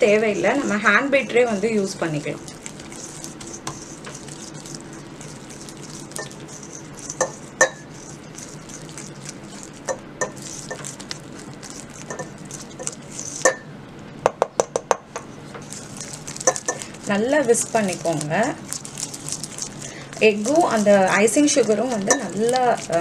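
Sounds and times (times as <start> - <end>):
whisk scraping in a bowl: 0.4 - 13.6, 15.2 - 23.0
whisk wires clinking on bowl: 0.6 - 13.7, 15.2 - 23.0.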